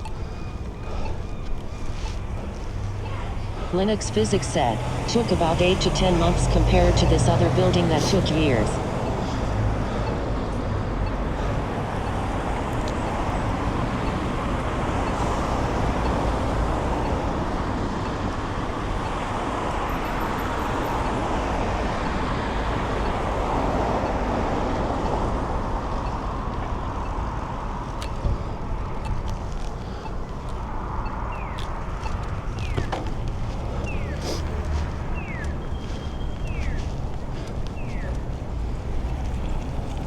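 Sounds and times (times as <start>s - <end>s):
road and traffic noise: 0.0s - 40.0s.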